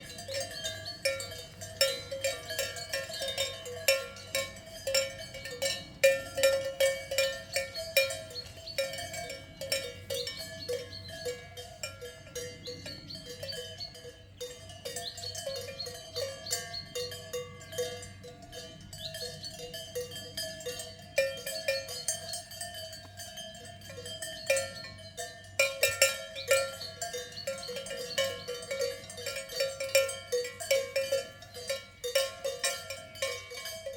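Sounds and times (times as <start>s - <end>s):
cowbells clanking: 0.0s - 33.9s.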